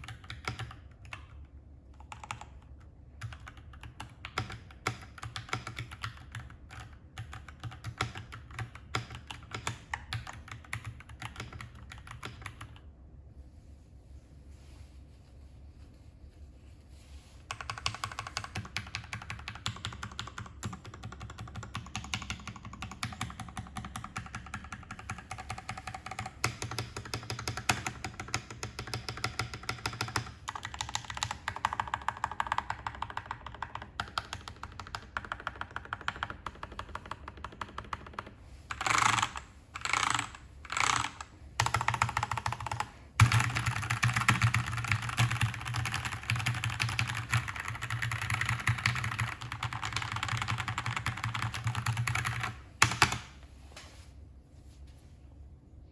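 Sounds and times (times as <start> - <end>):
mechanical keyboard typing: 0.0 - 12.8, 17.5 - 53.3.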